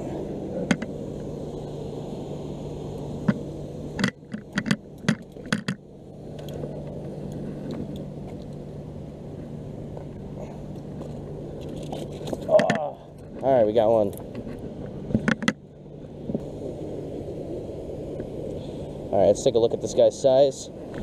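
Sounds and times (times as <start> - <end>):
constant low hum: 0.0 - 21.0
steady low rumble: 0.0 - 21.0.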